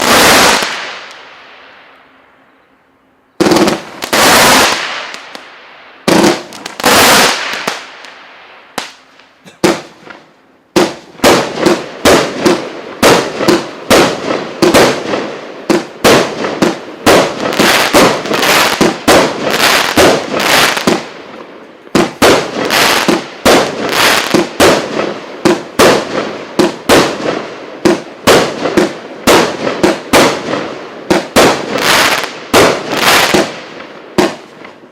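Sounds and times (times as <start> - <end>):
fireworks bangs with crackling tails: 0.0 - 2.0, 3.4 - 34.9.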